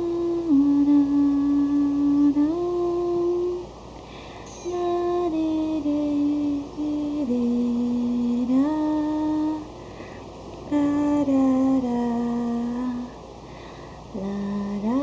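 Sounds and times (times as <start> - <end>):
person humming a slow tune: 0.0 - 3.7, 4.4 - 9.7, 10.7 - 13.2, 14.1 - 15.0.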